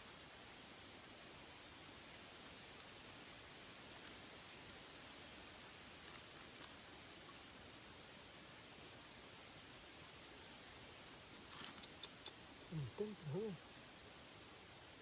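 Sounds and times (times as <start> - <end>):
high-pitched insect drone: 0.0 - 15.0
quiet hiss: 0.0 - 15.0.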